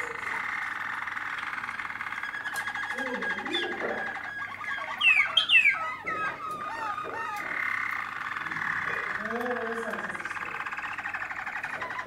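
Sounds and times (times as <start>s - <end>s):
canary gliding notes: 0.0s - 12.0s
canary rolling trill: 0.0s - 12.0s.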